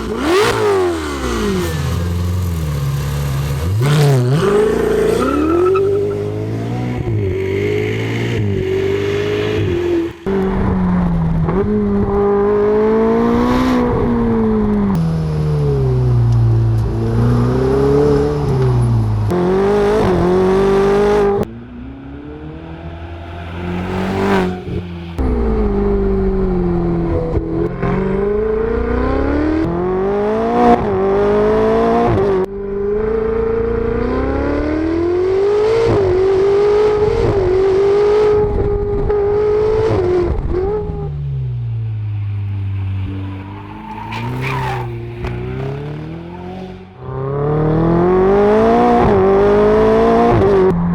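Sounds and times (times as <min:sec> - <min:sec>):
sports car engine revving: 0:00.0 - 0:50.8.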